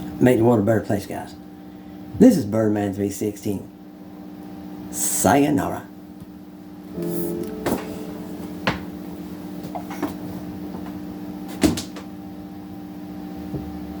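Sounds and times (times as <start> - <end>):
guitar amp electric hum: 0.0 - 14.0.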